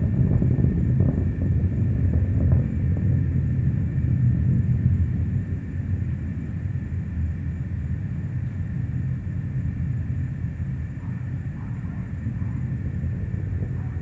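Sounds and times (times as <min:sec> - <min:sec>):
distant rocket rumble: 0:00.0 - 0:14.0.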